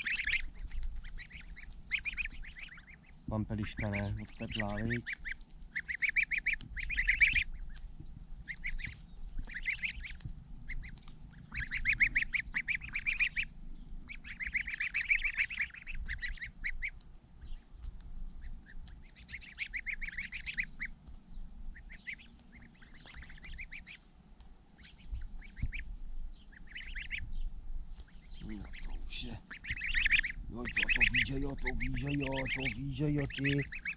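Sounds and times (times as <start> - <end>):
goslings peeping in trills: 0.0 - 33.9.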